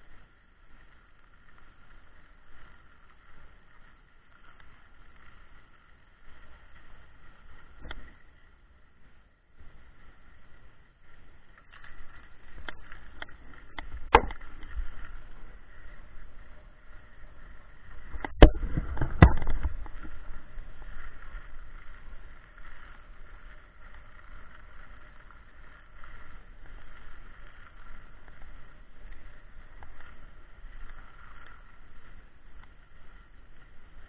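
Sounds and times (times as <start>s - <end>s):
skis sliding over snow: 0.0s - 34.0s.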